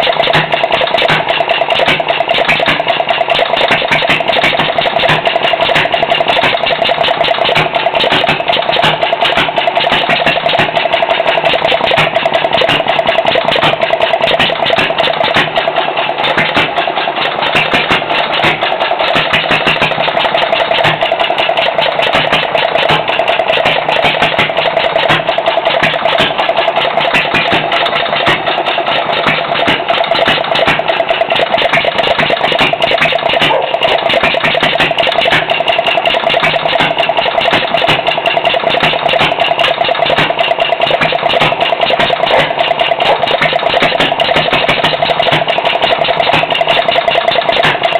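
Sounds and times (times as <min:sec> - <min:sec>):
small gas engine running: 0:00.0 - 0:47.9.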